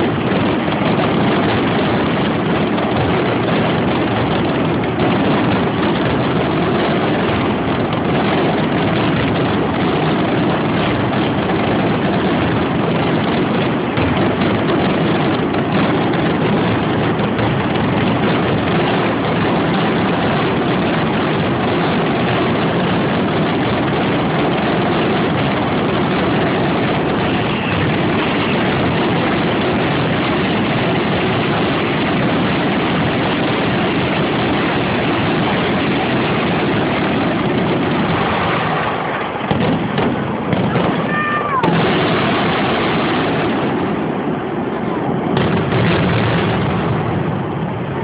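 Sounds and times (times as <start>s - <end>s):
fireworks exploding: 0.0s - 48.0s.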